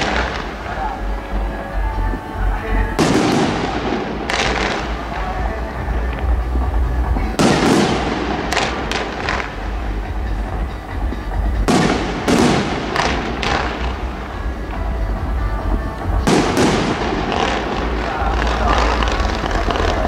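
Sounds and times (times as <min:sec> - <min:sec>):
fireworks bangs and cracks: 0:00.0 - 0:20.0
low rumble: 0:00.0 - 0:20.0.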